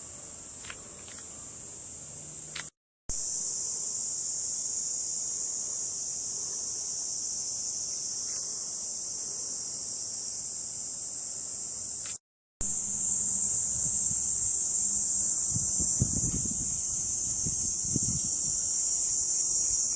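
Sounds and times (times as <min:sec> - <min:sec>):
insects buzzing shrilly: 0:00.0 - 0:19.9.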